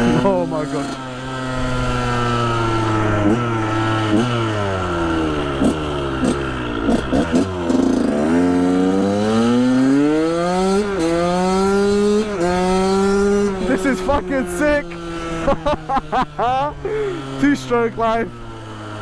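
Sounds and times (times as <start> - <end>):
two-stroke motocross engine revving: 0.0 - 19.0.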